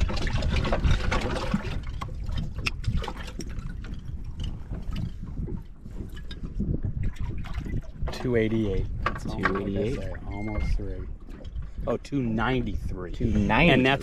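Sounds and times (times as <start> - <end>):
water splashing and dripping: 0.0 - 11.8.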